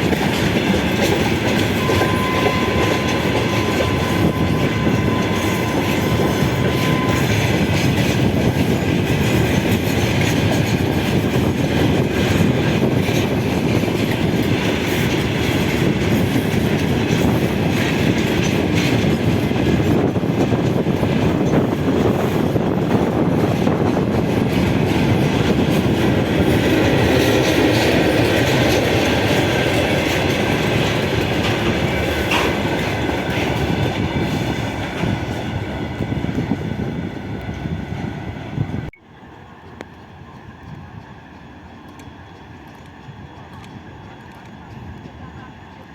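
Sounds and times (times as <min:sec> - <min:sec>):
clickety-clack over rail joints: 0:00.0 - 0:45.9
train wheels rolling on rails: 0:00.0 - 0:45.9.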